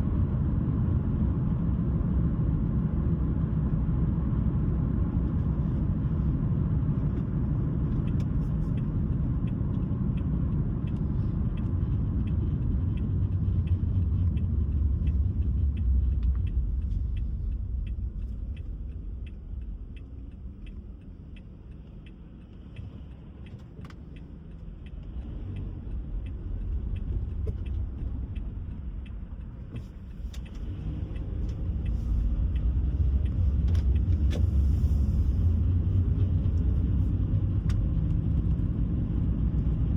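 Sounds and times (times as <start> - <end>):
car tyres and engine rumble: 0.0 - 39.9
faint regular ticking: 7.0 - 39.9.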